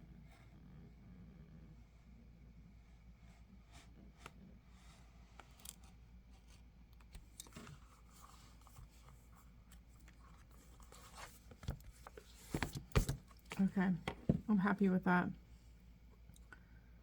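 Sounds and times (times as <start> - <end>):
quiet room hum: 0.0 - 17.0.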